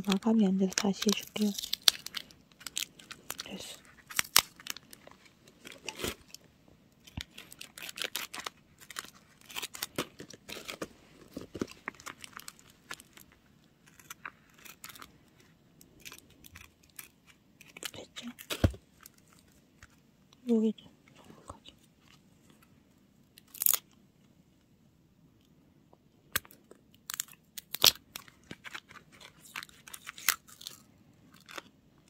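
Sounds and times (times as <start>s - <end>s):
tape crackling and rustling: 0.0s - 20.7s, 21.7s - 24.3s, 26.3s - 32.0s.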